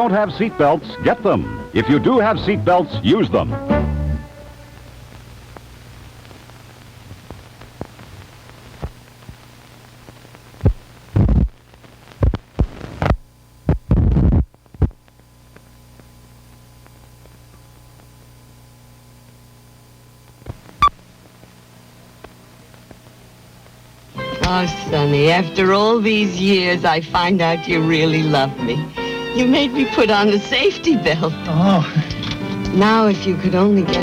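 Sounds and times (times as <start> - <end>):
low electrical hum: 0.0 - 32.2.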